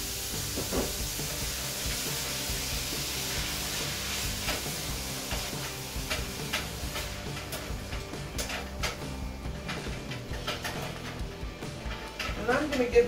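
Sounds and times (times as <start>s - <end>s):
noodles sizzling in a pan: 0.0s - 13.0s.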